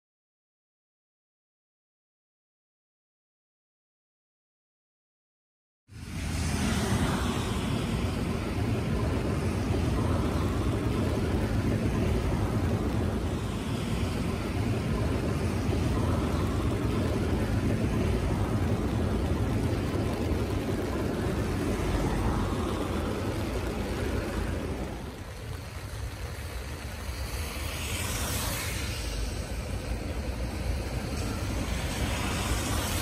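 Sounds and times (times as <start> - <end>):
train rumbling across steel bridge: 6.1 - 33.0.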